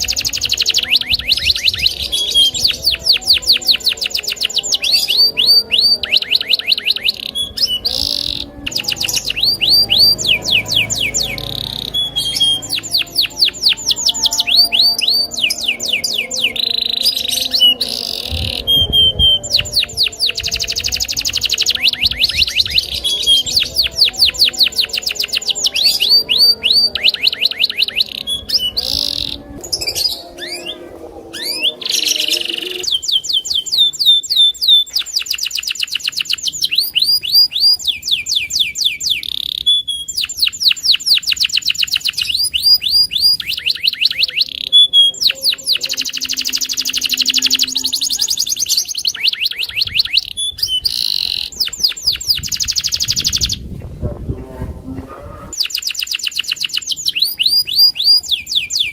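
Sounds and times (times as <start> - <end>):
canary singing: 0.0 - 58.9.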